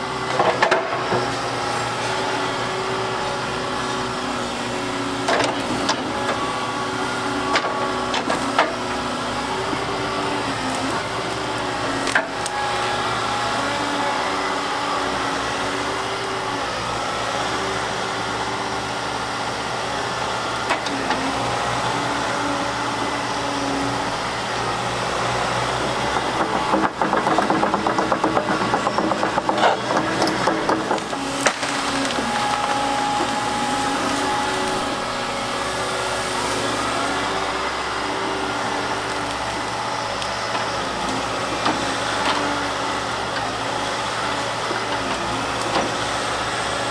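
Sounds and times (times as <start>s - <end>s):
excavator engine and hydraulics: 0.0s - 46.9s.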